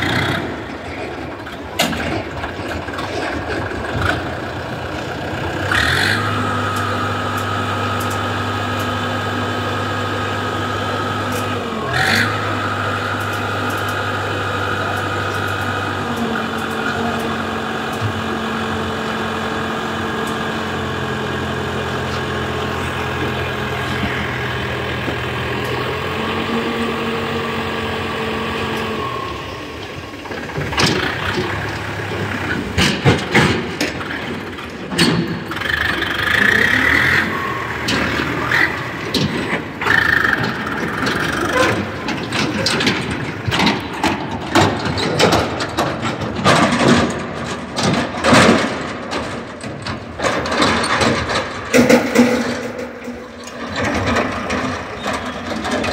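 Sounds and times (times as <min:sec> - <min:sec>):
tipper trailer clanking and rattling: 0:00.0 - 0:55.9
tractor diesel engine running: 0:00.0 - 0:55.9.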